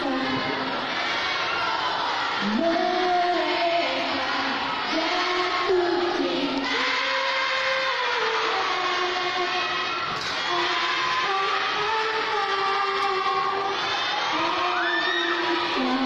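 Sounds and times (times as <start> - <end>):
woman singing: 2.4 - 9.9, 10.5 - 16.0.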